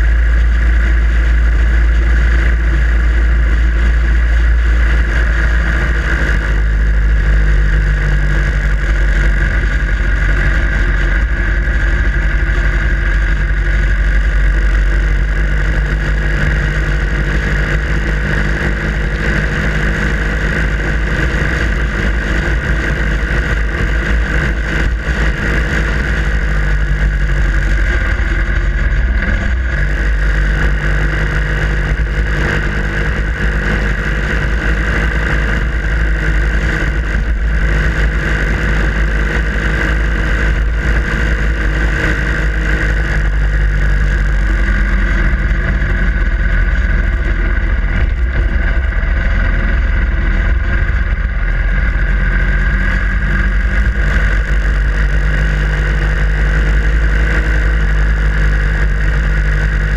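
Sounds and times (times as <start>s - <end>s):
motorcycle engine running: 0.0s - 59.9s
wind rumble on microphone: 0.0s - 59.9s.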